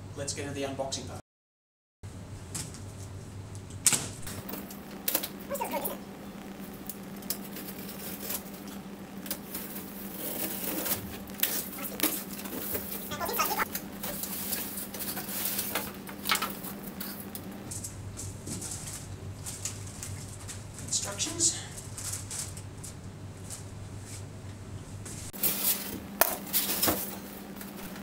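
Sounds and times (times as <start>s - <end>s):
steady low hum: 2.1s - 28.0s.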